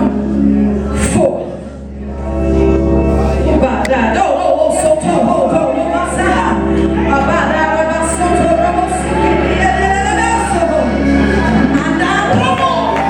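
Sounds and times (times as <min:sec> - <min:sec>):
church worship music: 0:00.0 - 0:13.0.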